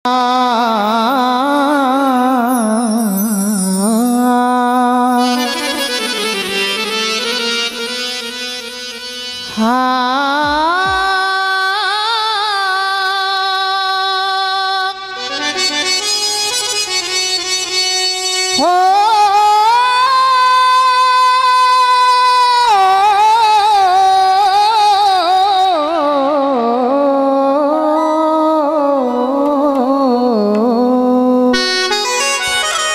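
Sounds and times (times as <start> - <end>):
man singing long notes: 0.0 - 17.5, 18.5 - 32.7
harmonium sustaining notes: 0.2 - 25.0, 25.9 - 32.9.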